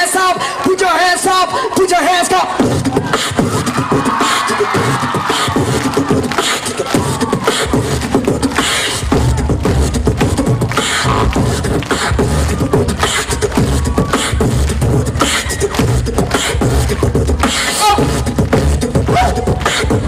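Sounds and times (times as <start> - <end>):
beatboxing into a microphone: 0.0 - 20.0.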